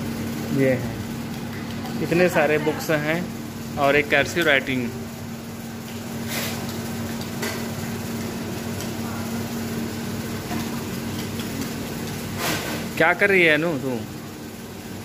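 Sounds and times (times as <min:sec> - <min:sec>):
room hum with low drone: 0:00.0 - 0:15.0.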